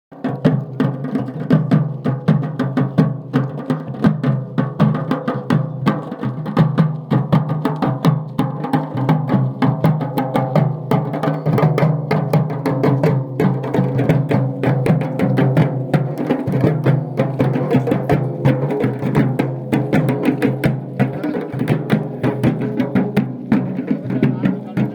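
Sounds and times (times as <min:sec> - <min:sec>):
fast drum strikes: 0:00.1 - 0:24.9.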